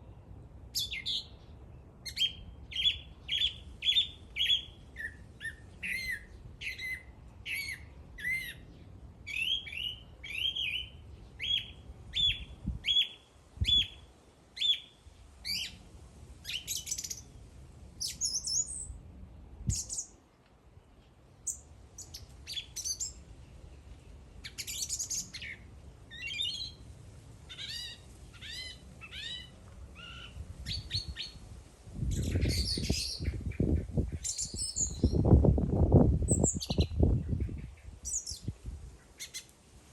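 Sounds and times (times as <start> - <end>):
songbird chirping and trilling: 0.0 - 15.8, 16.4 - 17.4, 18.0 - 19.0, 19.6 - 20.2, 20.8 - 26.8, 27.5 - 31.4, 32.0 - 35.4, 36.2 - 39.5.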